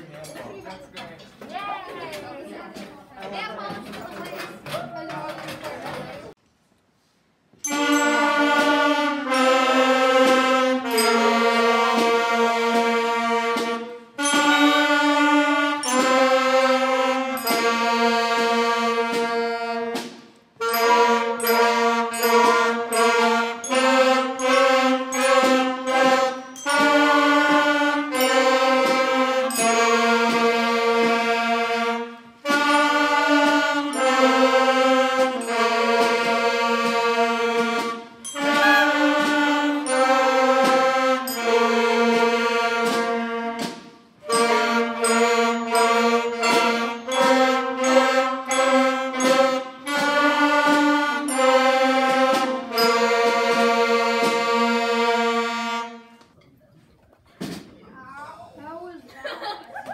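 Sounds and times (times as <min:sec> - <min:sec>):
wind band playing: 0:07.6 - 0:56.3.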